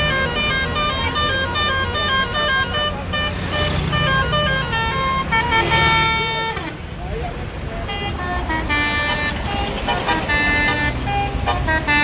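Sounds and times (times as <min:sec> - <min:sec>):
multi-tone bus horn tune: 0:00.0 - 0:07.0, 0:07.6 - 0:12.0
bus engine running: 0:00.0 - 0:12.0.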